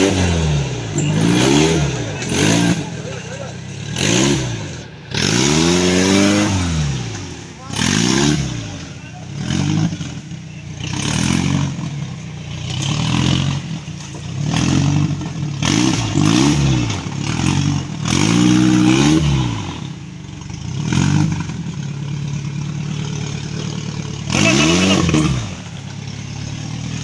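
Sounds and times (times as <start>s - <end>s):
engine revving in bursts: 0.0s - 27.0s
vehicle clattering: 0.0s - 27.0s.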